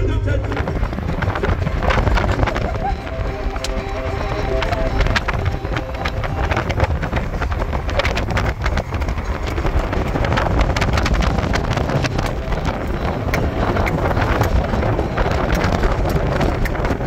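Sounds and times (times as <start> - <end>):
tyres and engine rumbling: 0.0 - 17.0
wind buffeting microphone: 0.0 - 17.0.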